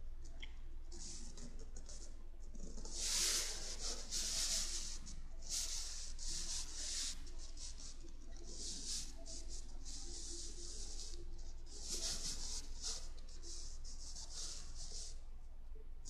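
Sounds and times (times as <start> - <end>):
soft rubbing and brushing: 0.6 - 15.6.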